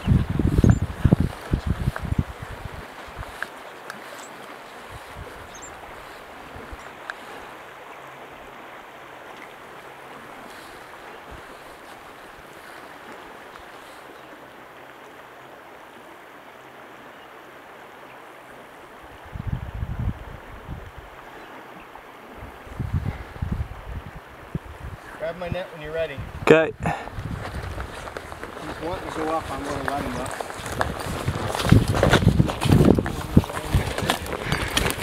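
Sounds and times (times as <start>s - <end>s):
river water rushing: 0.0s - 19.4s, 20.2s - 35.0s.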